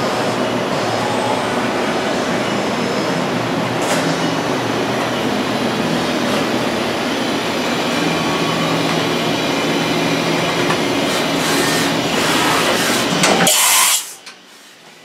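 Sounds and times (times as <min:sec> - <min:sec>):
machining center running: 0:00.0 - 0:15.0.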